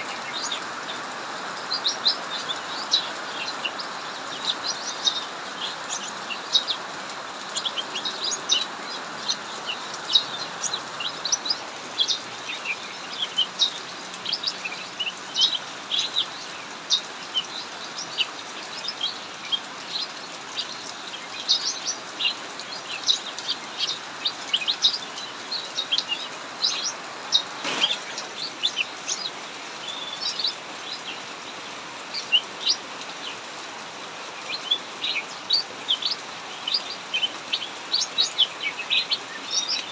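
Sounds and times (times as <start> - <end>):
heavy rain hiss: 0.0 - 39.9
songbird chirping rapidly: 0.0 - 39.9.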